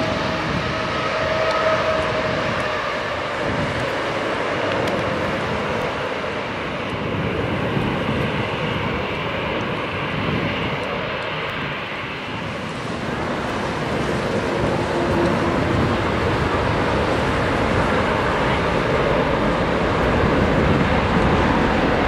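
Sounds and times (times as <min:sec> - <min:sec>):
jet engines at high power: 0:00.0 - 0:22.0.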